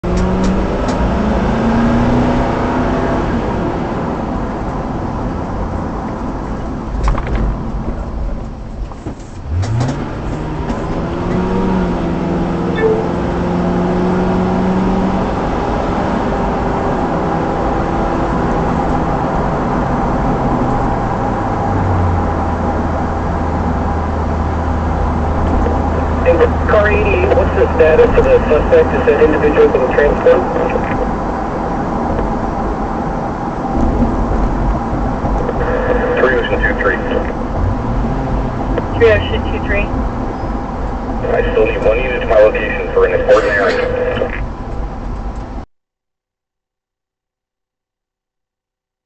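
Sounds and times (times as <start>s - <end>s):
car engine: 0.0s - 45.6s
road noise inside car: 0.0s - 45.6s.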